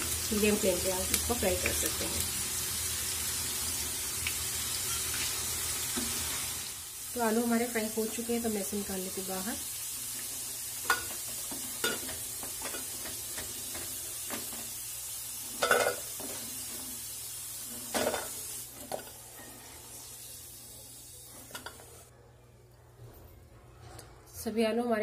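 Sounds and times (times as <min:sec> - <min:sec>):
potatoes sizzling in oil: 0:00.0 - 0:22.1.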